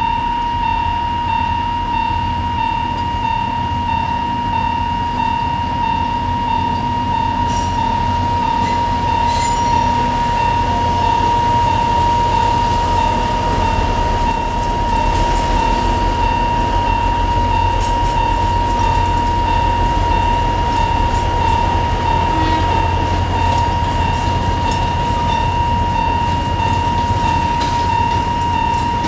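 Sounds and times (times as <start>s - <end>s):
diesel locomotive rumble: 0.0s - 29.0s
level crossing warning bell: 0.0s - 29.0s.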